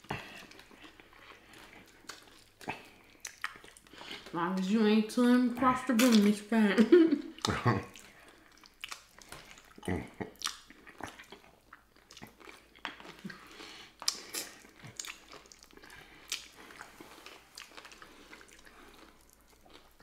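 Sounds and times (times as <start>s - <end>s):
chewing and biting: 0.0s - 4.3s, 7.4s - 20.0s.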